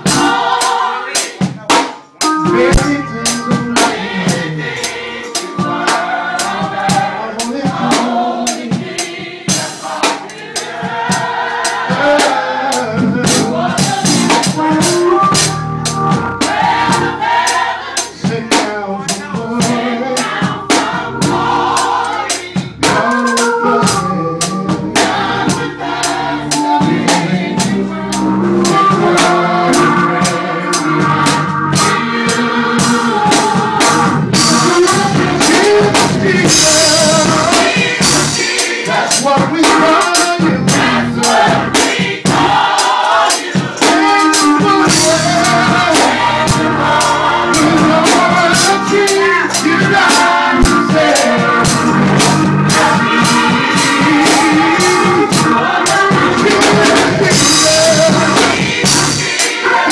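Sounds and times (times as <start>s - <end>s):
gospel choir singing: 0.0s - 59.9s
rhythmic drums and percussion: 0.0s - 59.9s.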